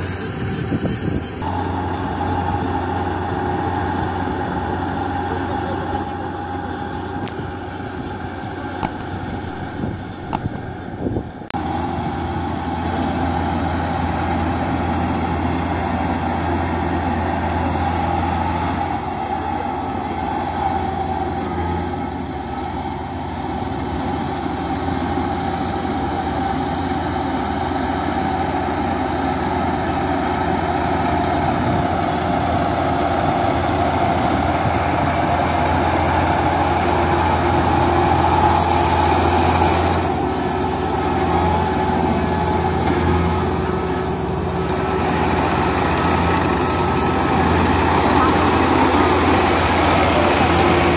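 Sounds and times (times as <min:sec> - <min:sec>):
combine harvester engine droning: 0:00.0 - 0:50.9.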